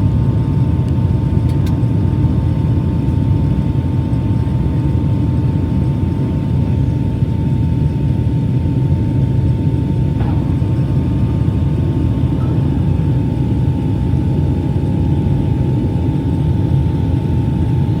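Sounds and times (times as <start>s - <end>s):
airplane engines droning: 0.0s - 18.0s
constant high whine: 0.0s - 18.0s.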